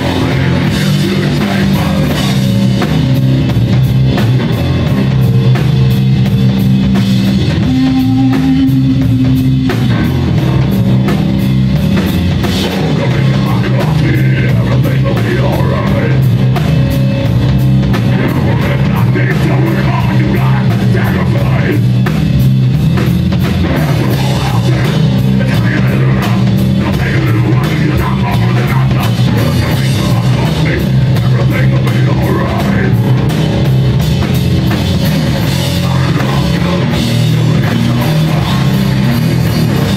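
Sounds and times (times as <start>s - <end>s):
bass guitar: 0.0s - 39.9s
drum kit: 0.0s - 39.9s
electric guitar riff: 0.0s - 39.9s.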